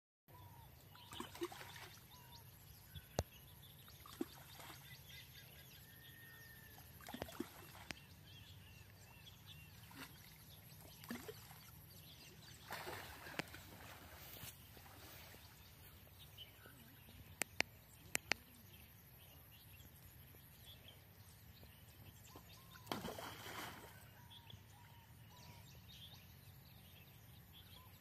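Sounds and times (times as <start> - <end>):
faint birds chirping: 0.3 - 28.0.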